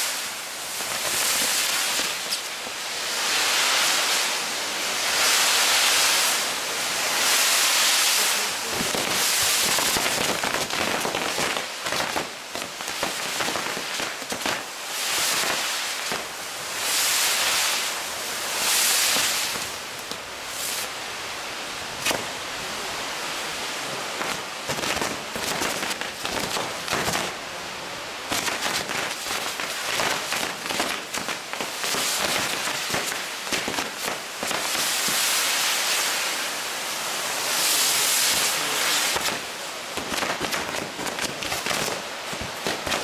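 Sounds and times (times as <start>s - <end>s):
firework crackles and pops: 0.0s - 21.0s, 21.9s - 22.7s, 23.8s - 27.4s, 28.2s - 43.0s
firework fountain hissing: 0.0s - 43.0s.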